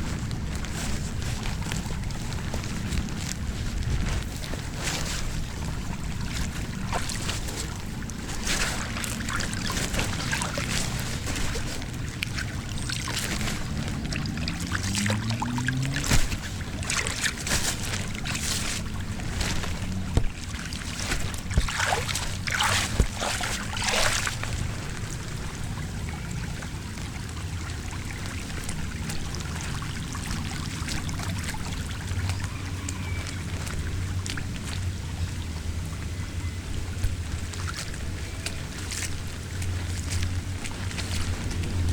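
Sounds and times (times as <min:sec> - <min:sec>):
low steady rumble: 0:00.0 - 0:41.9
water draining and trickling: 0:00.0 - 0:41.9
water splashing and sloshing: 0:00.0 - 0:41.9.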